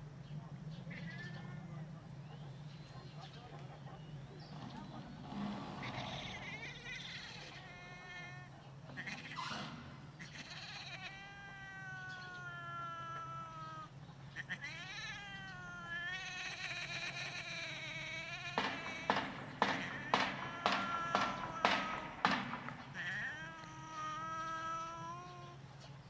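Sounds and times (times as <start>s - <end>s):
cat yowling: 4.6s - 25.8s.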